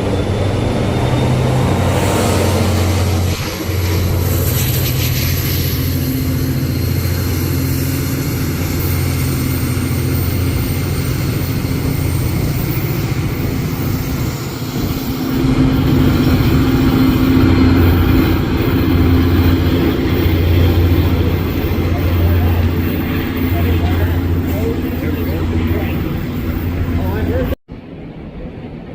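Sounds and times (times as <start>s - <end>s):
diesel locomotive engine drone: 0.0s - 28.9s.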